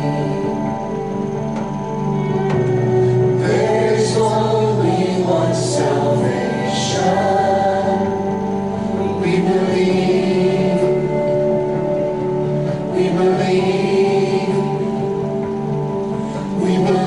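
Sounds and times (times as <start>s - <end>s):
voices singing along: 0.0s - 17.0s
worship band playing: 0.0s - 17.0s.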